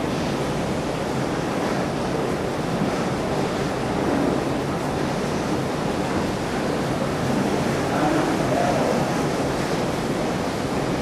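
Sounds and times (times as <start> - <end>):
heavy rain: 0.0 - 11.0
wind buffeting microphone: 0.0 - 11.0.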